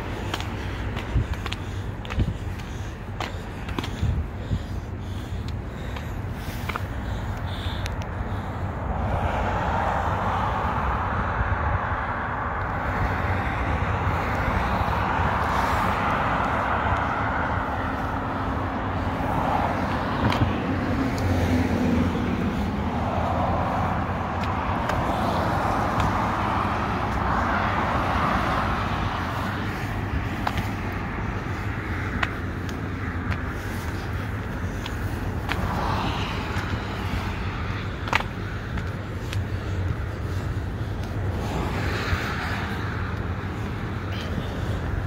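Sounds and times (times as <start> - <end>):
cars passing: 0.0 - 45.0
low traffic rumble: 0.0 - 45.0.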